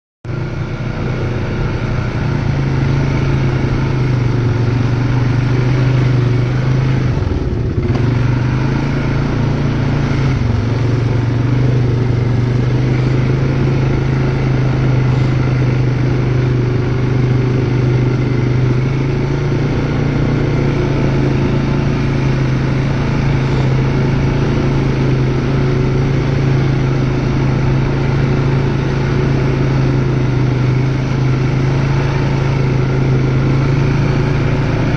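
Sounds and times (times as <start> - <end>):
atv engine running: 0.3 - 34.9.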